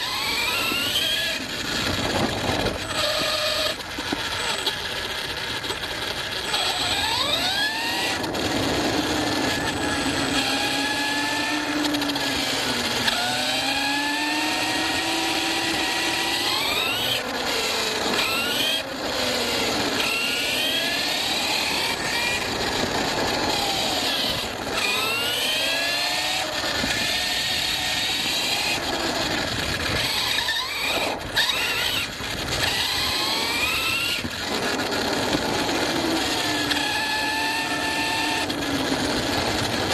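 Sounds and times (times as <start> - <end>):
rc car motor whining: 0.0 - 39.9
rumble and rattle over rough ground: 0.0 - 39.9.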